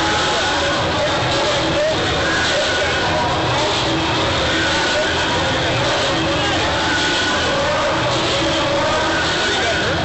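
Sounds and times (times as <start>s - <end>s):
crowd chatter: 0.0s - 10.0s.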